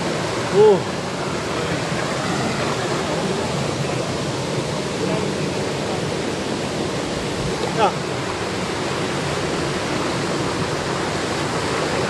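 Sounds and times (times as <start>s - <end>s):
waterfall pouring over boulders: 0.0s - 12.0s.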